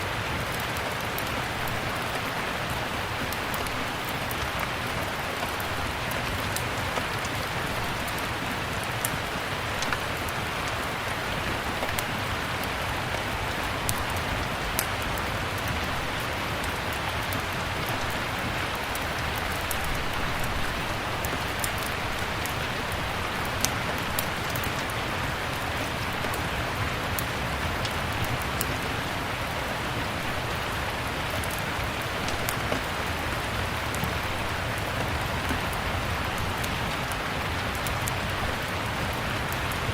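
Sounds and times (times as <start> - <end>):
steady rain: 0.0 - 39.9
wood fire crackling: 0.1 - 39.9.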